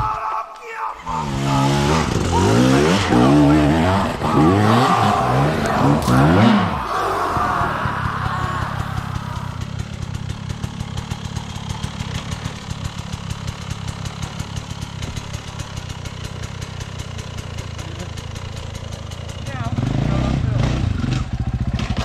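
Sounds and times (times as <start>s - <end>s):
dirt bike engine idling: 1.0s - 22.0s.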